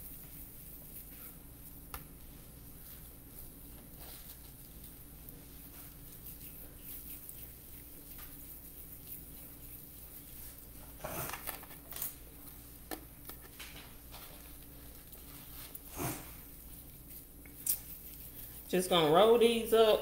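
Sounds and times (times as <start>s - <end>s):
meat squishing between palms: 0.0s - 18.7s.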